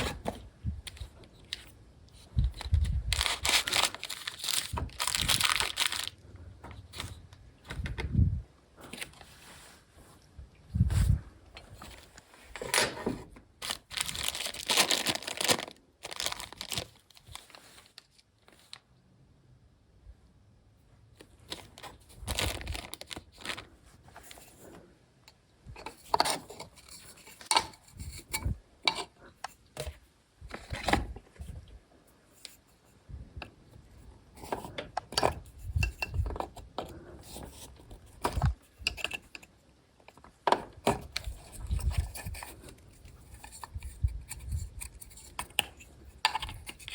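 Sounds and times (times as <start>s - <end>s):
rustling and crinkling: 0.0s - 18.9s, 21.1s - 25.0s, 25.7s - 46.9s.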